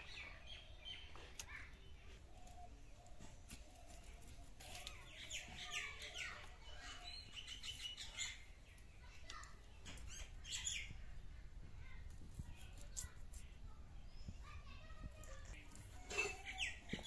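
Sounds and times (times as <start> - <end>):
birds chirping: 0.0 - 11.4, 13.9 - 17.0.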